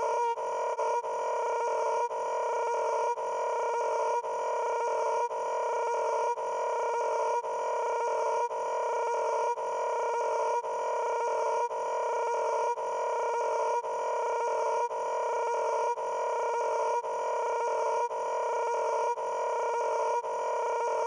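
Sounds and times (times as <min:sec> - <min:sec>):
droning tone: 0:00.0 - 0:21.0.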